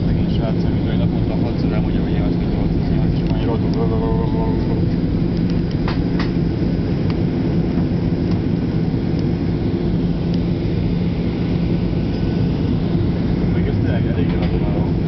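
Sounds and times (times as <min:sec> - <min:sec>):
airliner cabin drone: 0:00.0 - 0:15.0
low even hum: 0:00.0 - 0:15.0.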